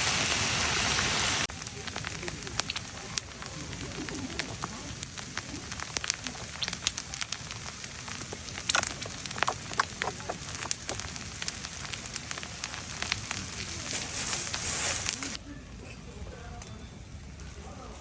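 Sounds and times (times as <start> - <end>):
firewood crackling and popping: 0.0 - 15.4.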